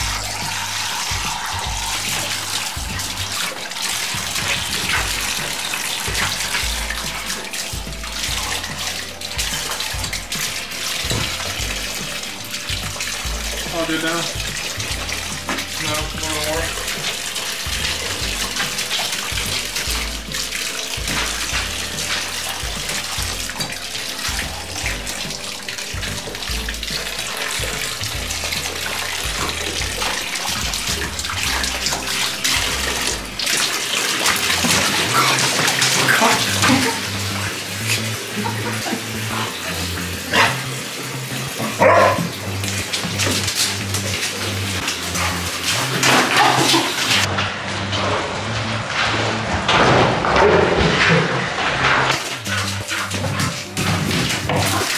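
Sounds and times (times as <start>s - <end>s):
faucet running into bathtub: 0.0s - 47.4s, 49.0s - 54.9s
background music: 0.0s - 54.9s
puppy splashing and lapping water: 0.0s - 54.9s.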